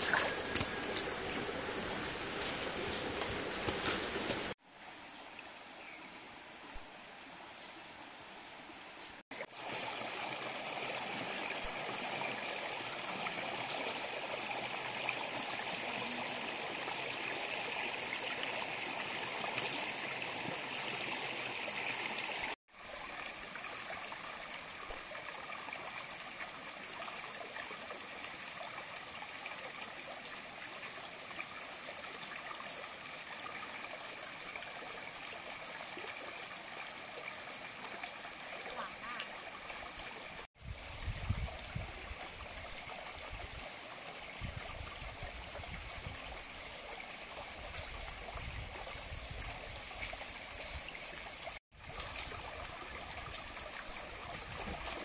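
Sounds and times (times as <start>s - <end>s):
stream running over rocks: 0.0s - 5.7s, 9.0s - 55.0s.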